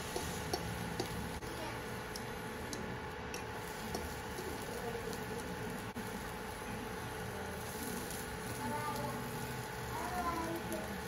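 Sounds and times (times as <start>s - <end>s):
omelette sizzling in oil: 0.0s - 11.0s.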